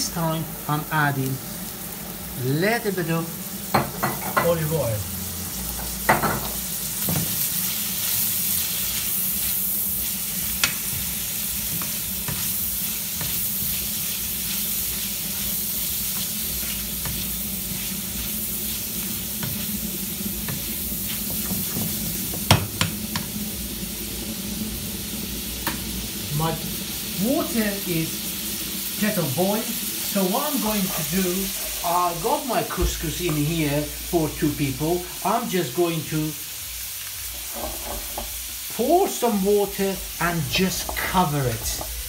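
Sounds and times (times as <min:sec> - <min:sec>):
food sizzling in a frying pan: 0:00.0 - 0:42.0.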